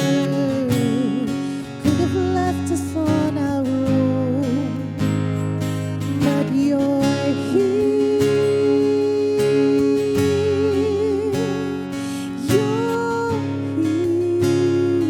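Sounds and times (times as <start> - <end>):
voice singing with vibrato: 0.0 - 5.1, 6.0 - 15.0
acoustic guitar strumming: 0.0 - 15.0.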